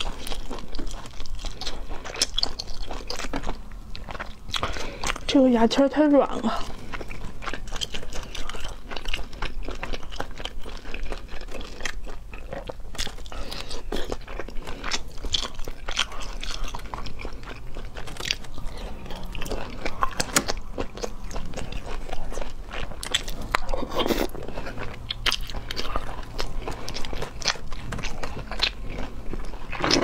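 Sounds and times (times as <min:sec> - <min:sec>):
wet chewing and biting: 0:00.0 - 0:05.3, 0:06.4 - 0:30.0.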